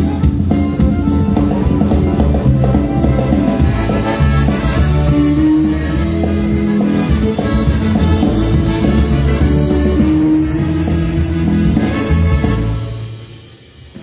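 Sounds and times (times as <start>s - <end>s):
polka band playing: 0.0s - 14.0s.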